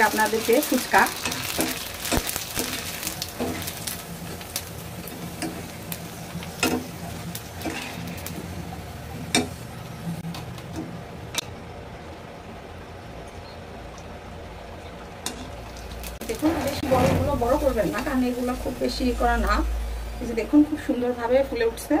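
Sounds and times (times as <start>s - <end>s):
food deep-frying in hot oil: 0.0s - 22.0s.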